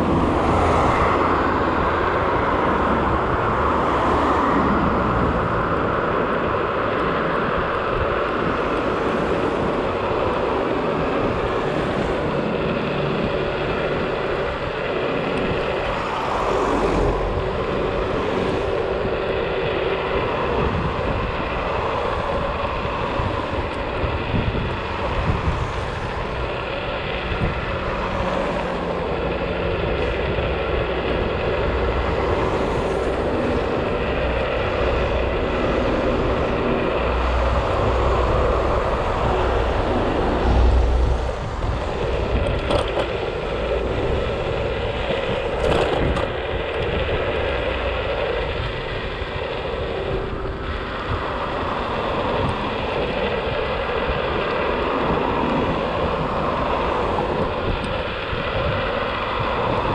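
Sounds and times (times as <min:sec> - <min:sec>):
scooter motor running: 0:00.0 - 0:59.9
wind noise on microphone: 0:00.0 - 0:59.9.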